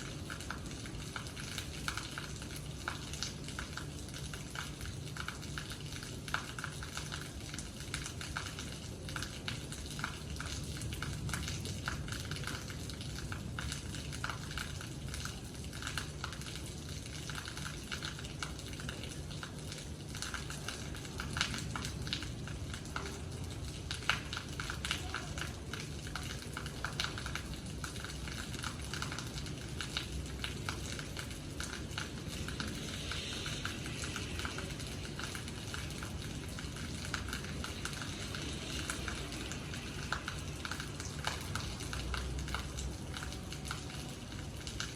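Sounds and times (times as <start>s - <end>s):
rain falling: 0.0s - 44.9s
raindrops ticking: 0.0s - 44.9s.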